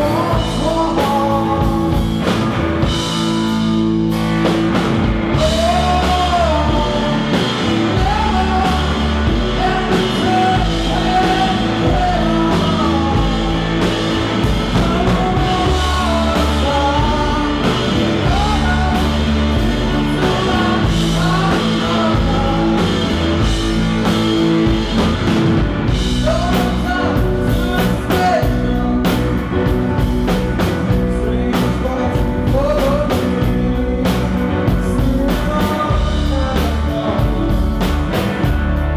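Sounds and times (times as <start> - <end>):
man singing lead vocal: 0.0 - 3.1, 5.3 - 25.2, 25.9 - 38.5
drum kit: 0.0 - 38.9
electric guitar: 0.0 - 38.9.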